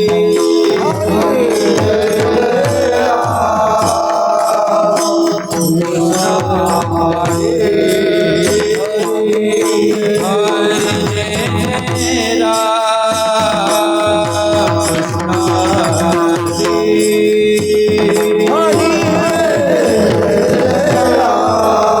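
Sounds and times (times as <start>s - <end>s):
drum playing steady rhythm: 0.0s - 22.0s.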